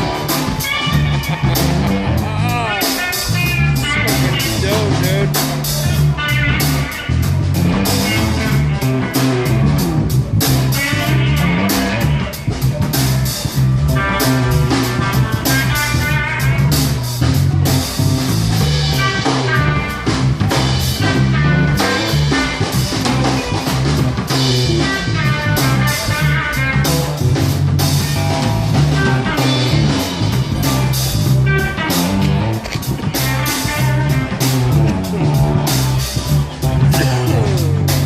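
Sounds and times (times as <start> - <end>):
bass: 0.0 - 38.0
drum kit: 0.0 - 38.0
electric guitar lead: 0.0 - 38.0.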